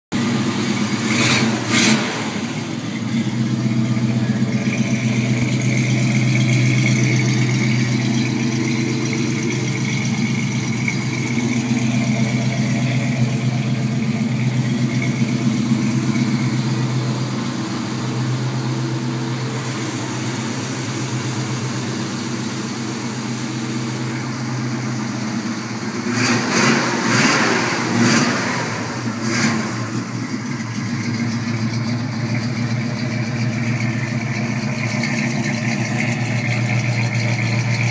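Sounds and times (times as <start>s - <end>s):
car engine idling and revving: 0.1s - 37.9s.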